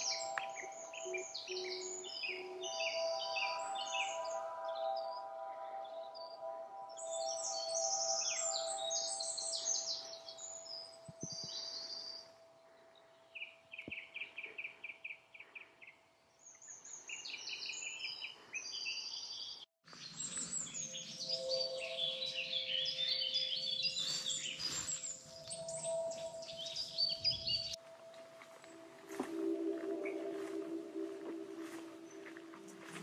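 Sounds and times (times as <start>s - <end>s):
birds singing: 0.0s - 28.8s.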